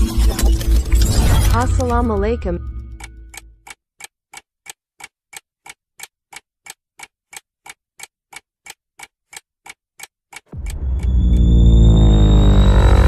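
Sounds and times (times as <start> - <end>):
clock-like ticking: 1.6 - 13.0.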